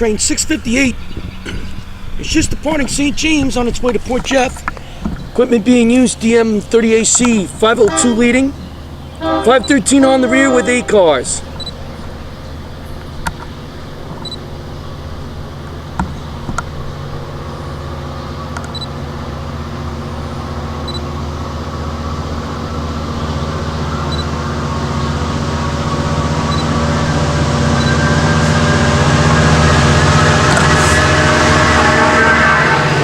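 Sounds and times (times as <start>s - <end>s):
locomotive diesel engine drone: 0.0s - 33.0s.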